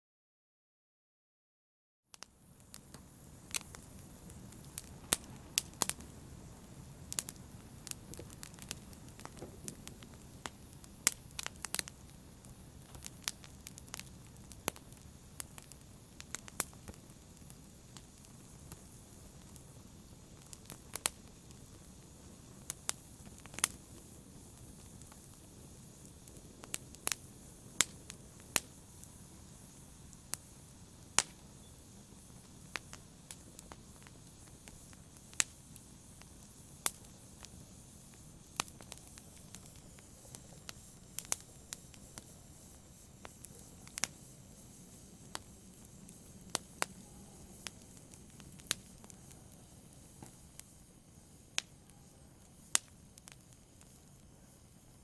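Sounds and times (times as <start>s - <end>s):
fire crackling and popping: 2.1s - 55.0s
flames rushing in fireplace: 2.3s - 55.0s.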